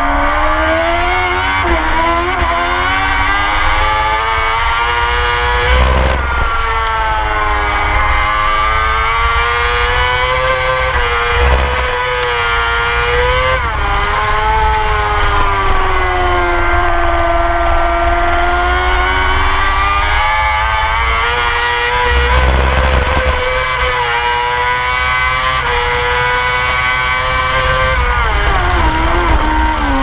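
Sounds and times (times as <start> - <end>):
motorcycle engine running hard: 0.0 - 30.0.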